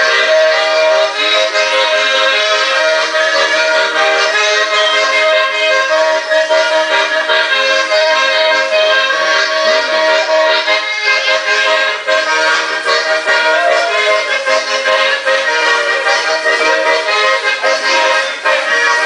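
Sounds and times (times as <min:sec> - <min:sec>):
instrumental music: 0:00.0 - 0:19.0.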